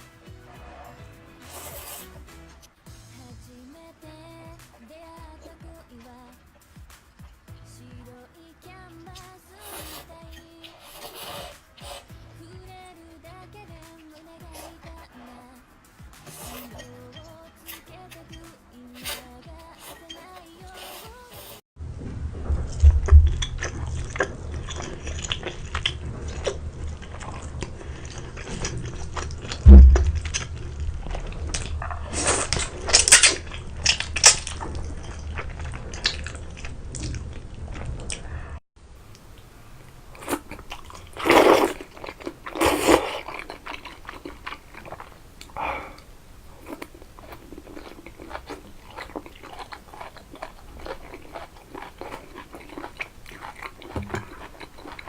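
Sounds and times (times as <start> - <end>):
person chewing crunchy food: 0.0 - 2.4, 9.1 - 12.3, 13.6 - 15.4, 16.0 - 21.6, 22.7 - 55.0.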